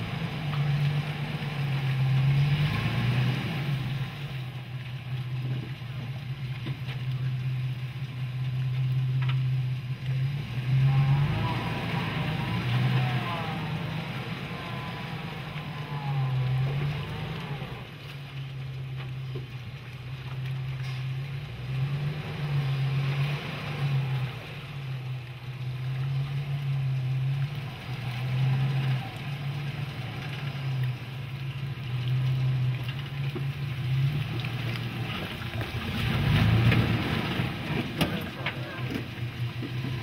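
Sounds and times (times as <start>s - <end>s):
car engine revving under load: 0.0s - 40.0s.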